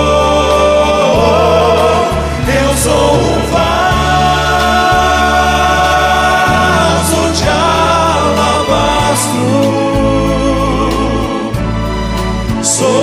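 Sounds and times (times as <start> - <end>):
male vocal group singing in harmony: 0.0 - 13.0
steady low bass: 0.0 - 13.0.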